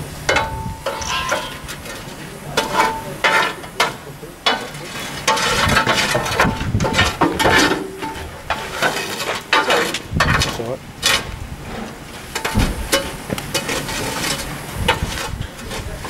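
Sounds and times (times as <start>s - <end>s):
shovel scraping on steel: 0.3s - 16.0s.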